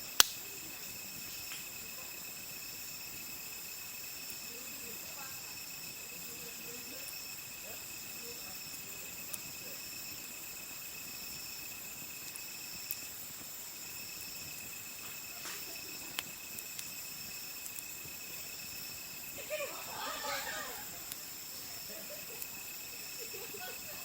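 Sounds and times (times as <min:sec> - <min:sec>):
crickets chirring: 0:00.0 - 0:24.0
wood fire popping: 0:00.0 - 0:24.0.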